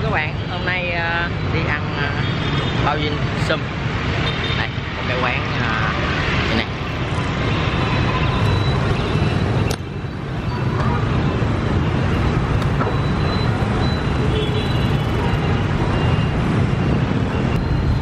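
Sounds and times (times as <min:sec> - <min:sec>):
street traffic with motorbikes: 0:00.0 - 0:18.0.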